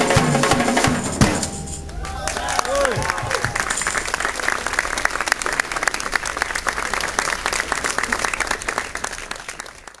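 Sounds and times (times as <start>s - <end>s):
crowd applauding: 1.8s - 10.0s.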